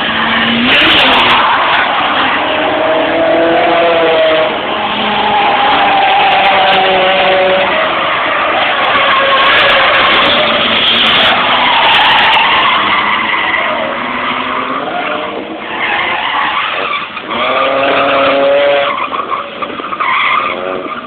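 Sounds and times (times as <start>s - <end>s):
car engine revving: 0.0s - 21.0s
tyres screeching: 0.0s - 21.0s.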